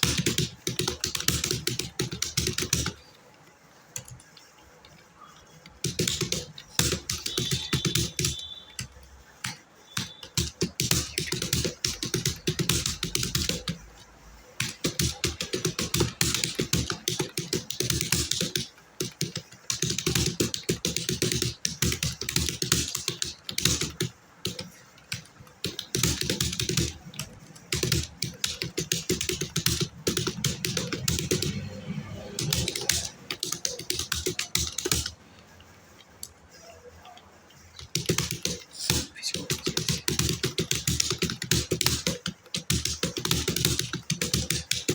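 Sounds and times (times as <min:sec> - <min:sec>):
fast typing on keyboard: 0:00.0 - 0:44.9.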